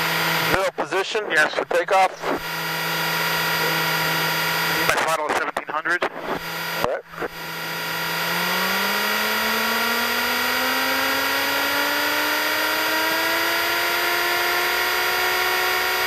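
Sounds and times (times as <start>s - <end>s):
propeller plane engine revving: 0.0s - 16.0s.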